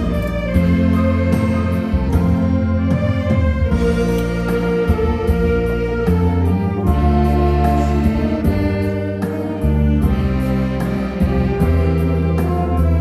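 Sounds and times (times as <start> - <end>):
orchestral music with steady beat: 0.0 - 13.0.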